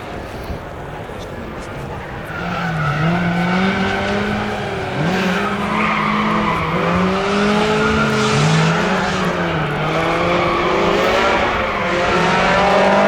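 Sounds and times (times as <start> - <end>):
rally car engine revving: 2.1 - 13.0.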